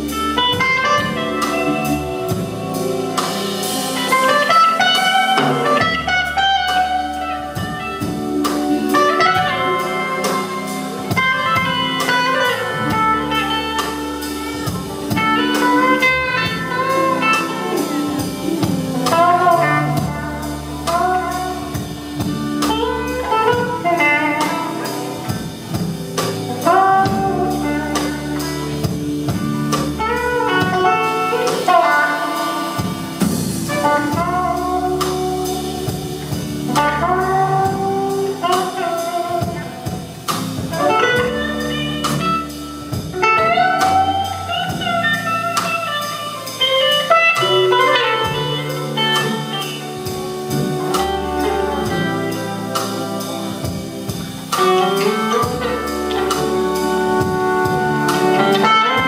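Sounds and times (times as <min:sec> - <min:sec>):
bass guitar: 0:00.0 - 0:59.0
drum kit: 0:00.0 - 0:59.0
electric guitar solo: 0:00.0 - 0:59.0.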